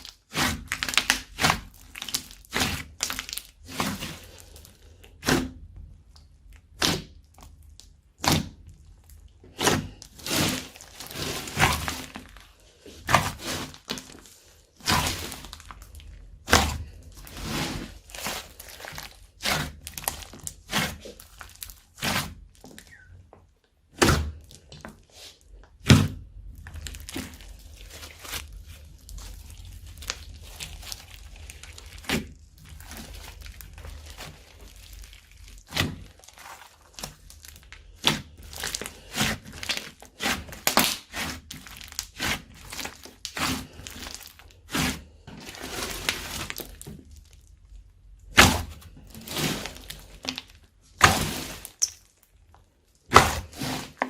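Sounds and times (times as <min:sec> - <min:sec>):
slime squishing with sticky pops: 0:00.0 - 0:54.0.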